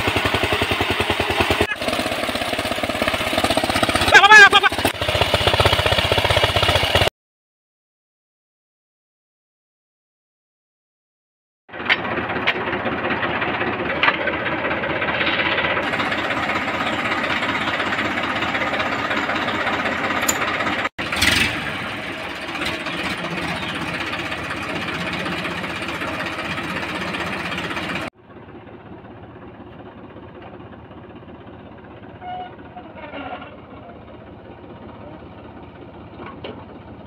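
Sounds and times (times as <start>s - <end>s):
tractor diesel engine running: 0.0s - 7.1s, 11.7s - 37.0s.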